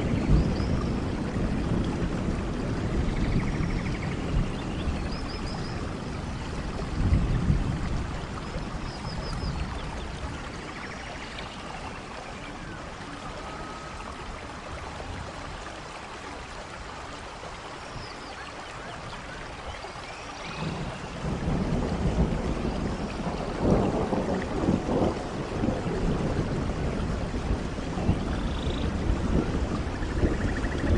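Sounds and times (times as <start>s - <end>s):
low rumble of thunder: 0.0s - 15.7s, 20.4s - 30.9s
steady rain falling: 0.0s - 30.9s.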